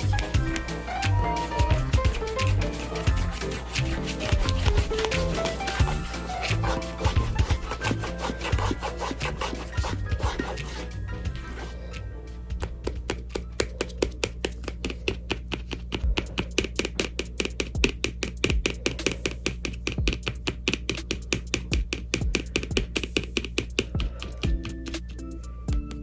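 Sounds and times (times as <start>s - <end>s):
fast ticking beat: 0.0s - 10.9s, 12.8s - 26.0s.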